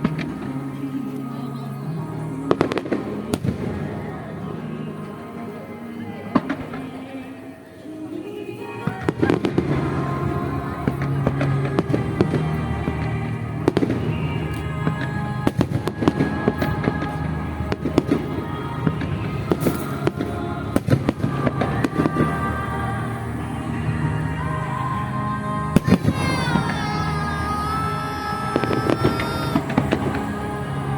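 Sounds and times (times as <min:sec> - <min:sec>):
fireworks bangs and crackles: 0:00.0 - 0:05.4, 0:06.3 - 0:07.2, 0:08.8 - 0:25.1, 0:25.7 - 0:30.9.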